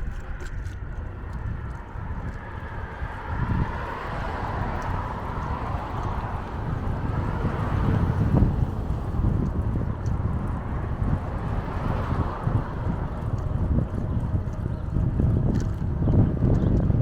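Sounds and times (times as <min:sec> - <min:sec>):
road and tyre noise: 0:00.0 - 0:17.0
wind rumbling on microphone: 0:00.0 - 0:17.0.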